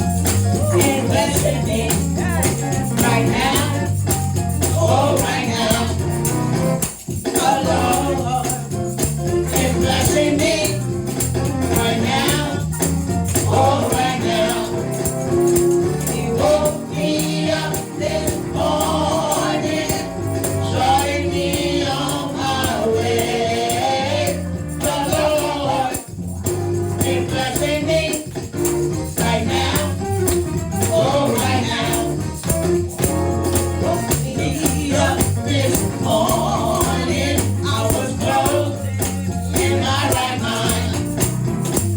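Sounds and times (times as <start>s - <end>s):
band playing: 0.0s - 41.9s
group singing gospel: 0.0s - 41.9s
shaken percussion: 0.0s - 41.9s.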